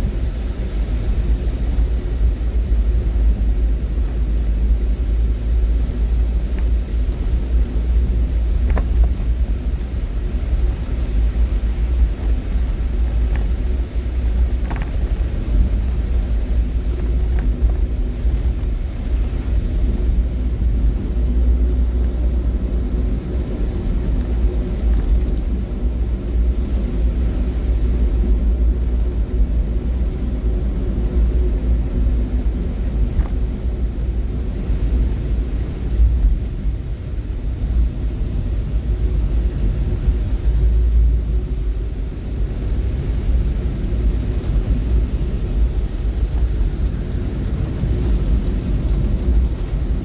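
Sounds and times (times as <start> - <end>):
faint engine hum: 0.0 - 50.0
vehicle rumbling on the move: 0.0 - 50.0.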